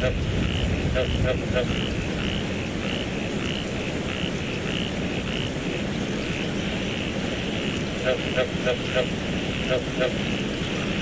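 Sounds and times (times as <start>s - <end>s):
frogs calling: 0.0s - 11.0s
steady rain: 0.0s - 11.0s.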